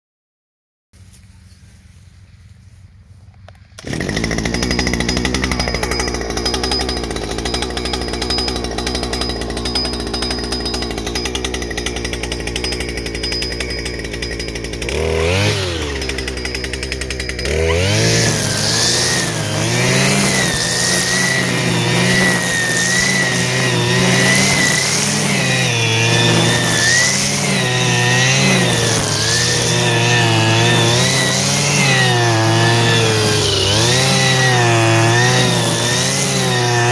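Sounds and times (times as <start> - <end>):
brushcutter engine revving: 3.4 - 36.9.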